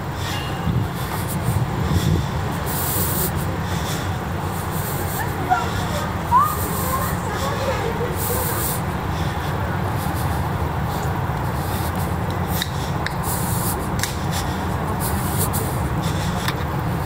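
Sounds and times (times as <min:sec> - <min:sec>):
low city street rumble: 0:00.0 - 0:17.0.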